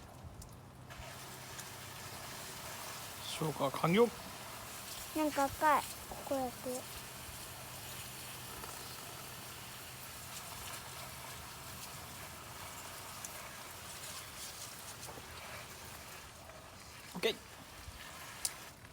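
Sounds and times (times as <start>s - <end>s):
embers sizzling: 0.0s - 18.9s
faint fire crackles: 0.0s - 18.9s.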